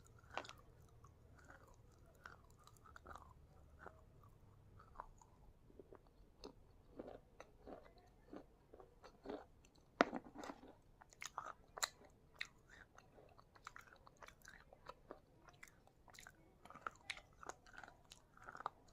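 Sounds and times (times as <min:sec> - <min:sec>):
dry crunching while chewing: 0:00.0 - 0:18.9.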